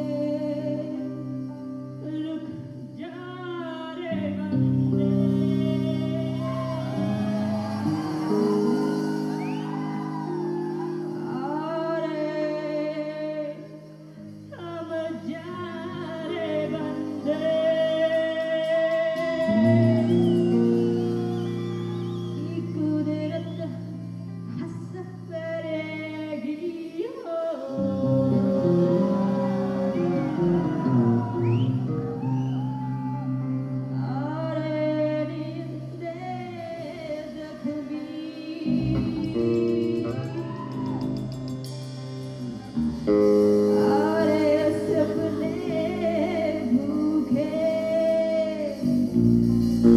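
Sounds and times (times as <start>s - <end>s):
woman singing long notes: 0.0s - 13.8s, 14.5s - 41.2s, 43.4s - 49.9s
electric bass and guitars: 0.0s - 27.0s, 27.7s - 49.9s
live rock band: 4.2s - 12.0s, 16.3s - 26.6s, 27.8s - 49.9s.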